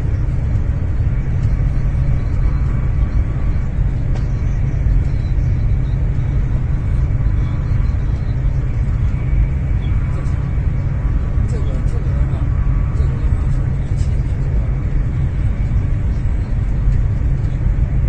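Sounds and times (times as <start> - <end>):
train rumble and hiss in cabin: 0.0 - 18.0.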